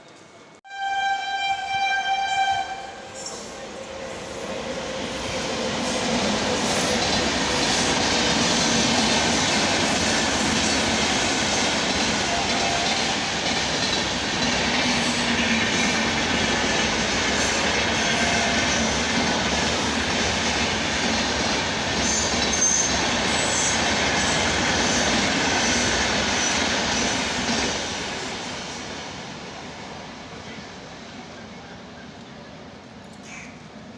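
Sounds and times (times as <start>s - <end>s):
train wheels rumbling on rails: 2.8s - 33.9s.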